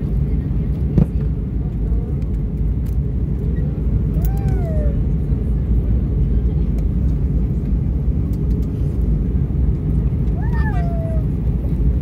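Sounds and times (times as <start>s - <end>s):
jet cabin engine rush: 0.0s - 12.0s.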